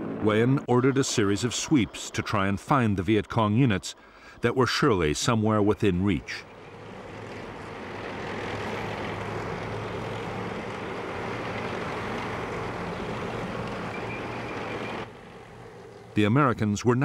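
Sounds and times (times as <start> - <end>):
armoured vehicle engine running: 0.0 - 3.9, 4.7 - 17.0.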